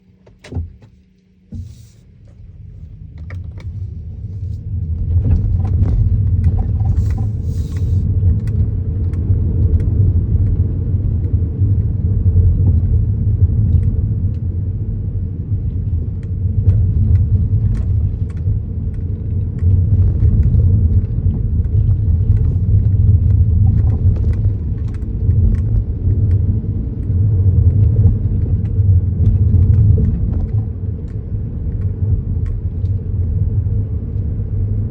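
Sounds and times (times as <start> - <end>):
road rumble inside car: 0.0 - 34.9.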